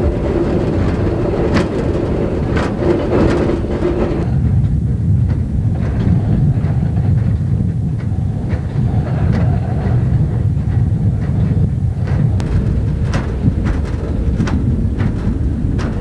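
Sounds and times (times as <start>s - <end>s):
truck rumbling on rails: 0.0s - 16.0s
wheels clicking over rail joints: 0.0s - 16.0s.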